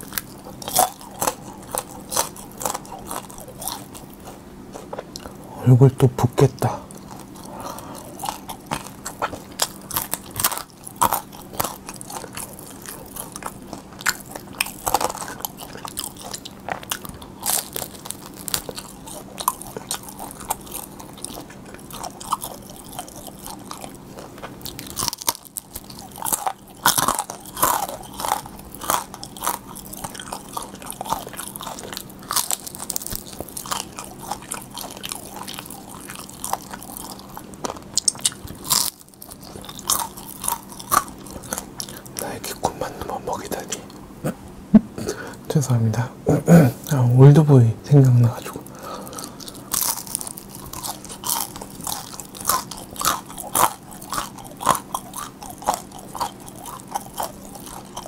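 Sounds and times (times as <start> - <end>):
crunching crispy dumplings: 0.0 - 5.4, 6.0 - 42.8, 46.8 - 58.0.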